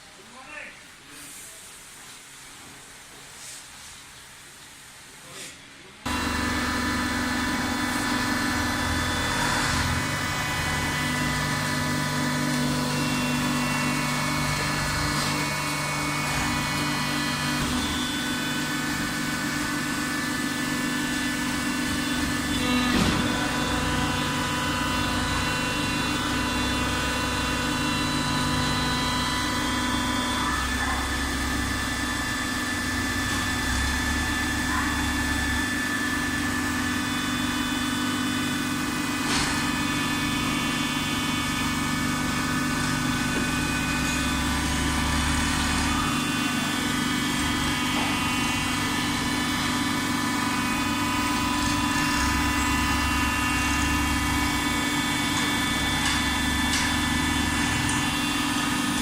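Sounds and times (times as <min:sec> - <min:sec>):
baler machine hum: 0:06.1 - 0:59.0.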